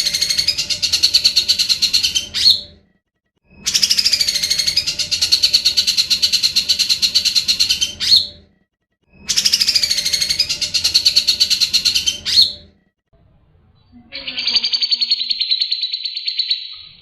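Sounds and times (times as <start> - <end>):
bird singing rapid repeated notes: 0.0 - 12.8, 14.2 - 17.0.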